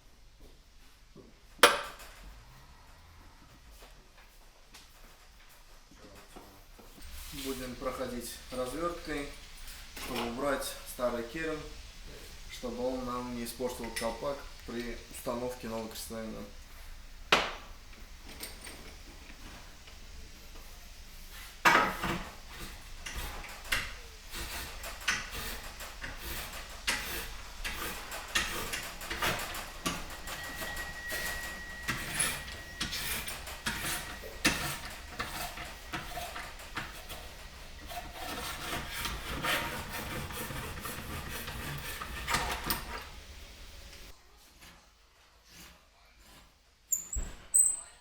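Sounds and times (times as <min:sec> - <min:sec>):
reamer scraping metal: 0:07.0 - 0:47.9.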